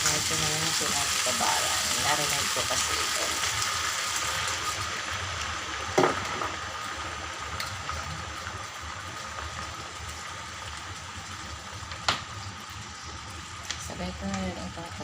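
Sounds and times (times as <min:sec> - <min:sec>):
meat sizzling in a pan: 0:00.0 - 0:15.0.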